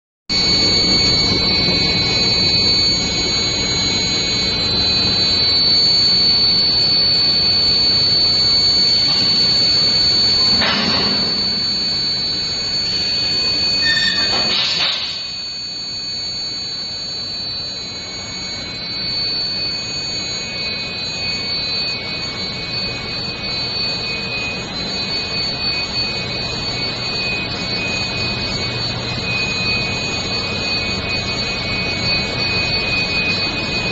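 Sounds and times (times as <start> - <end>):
induction heater whine: 0.3 - 33.9.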